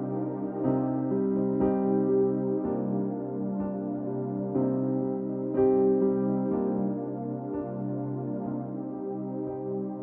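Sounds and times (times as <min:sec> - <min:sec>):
ambient keyboard chords: 0:00.0 - 0:10.0.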